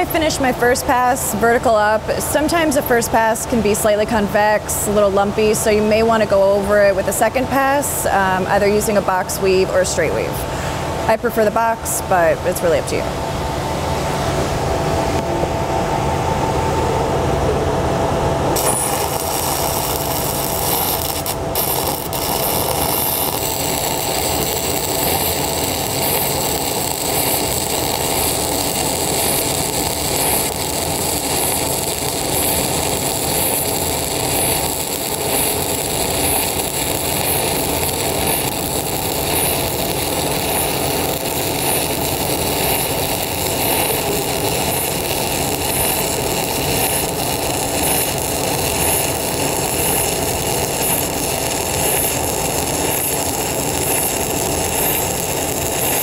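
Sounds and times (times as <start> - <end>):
welding arc crackling: 0.0 - 10.4, 18.5 - 56.0.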